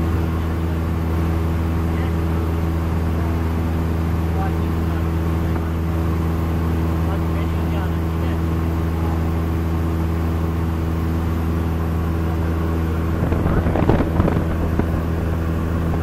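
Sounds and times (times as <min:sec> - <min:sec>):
airplane engine droning: 0:00.0 - 0:16.0.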